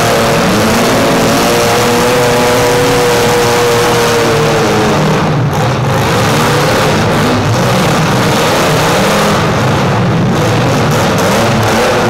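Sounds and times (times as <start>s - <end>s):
engines revving: 0.0s - 12.0s.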